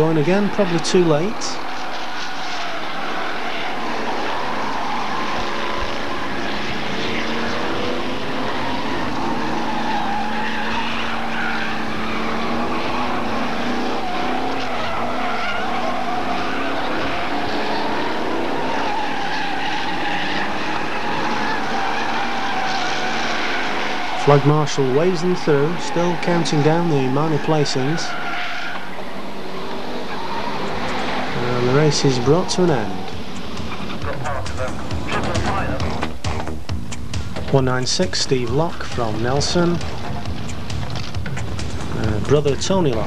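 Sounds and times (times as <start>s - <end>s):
racing car engines passing: 0.0s - 43.0s.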